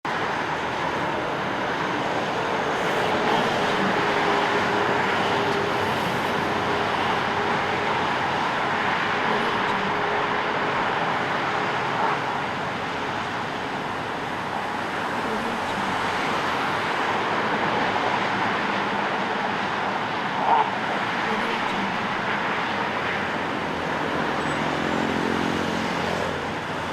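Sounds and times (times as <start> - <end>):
passing cars: 0.0 - 26.9.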